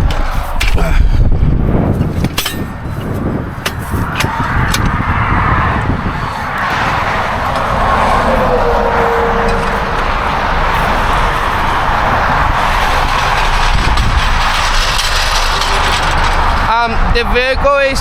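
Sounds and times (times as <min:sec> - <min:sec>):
road traffic rumbling: 0:00.0 - 0:18.0
vehicle passing: 0:01.5 - 0:18.0.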